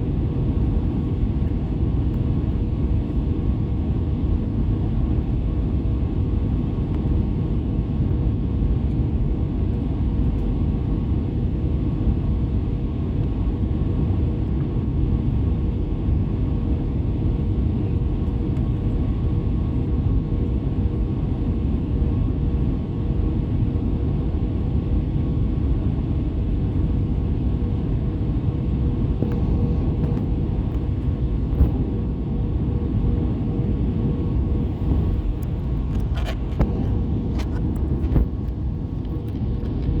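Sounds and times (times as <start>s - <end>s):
airplane cabin engine noise: 0.0s - 40.0s.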